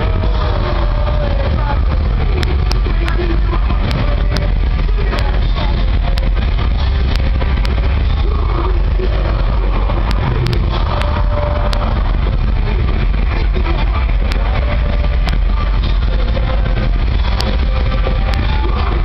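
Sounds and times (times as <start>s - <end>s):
crowd chatter: 0.0s - 19.0s
overloaded low rumble: 0.0s - 19.0s
sharp clicks: 2.2s - 8.4s, 9.0s - 19.0s.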